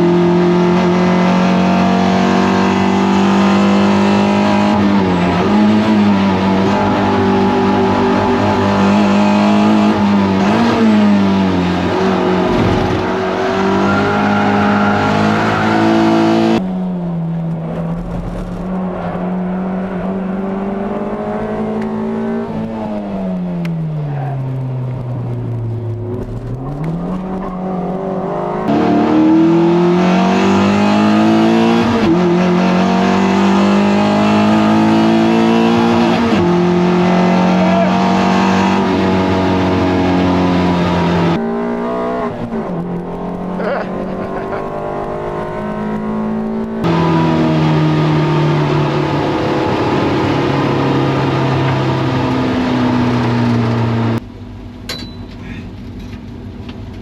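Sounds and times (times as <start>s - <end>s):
race car engine at high revs: 0.0s - 54.3s.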